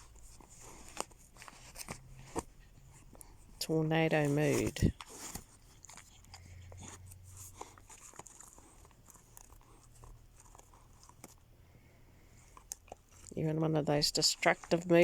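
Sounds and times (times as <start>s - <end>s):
puppy chewing: 0.0s - 15.0s.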